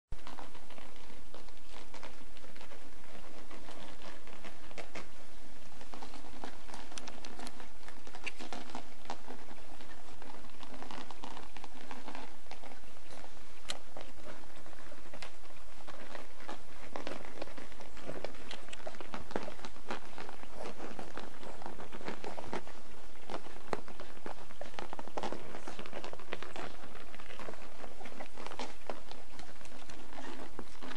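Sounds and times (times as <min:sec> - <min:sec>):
puppies suckling: 0:00.2 - 0:30.9.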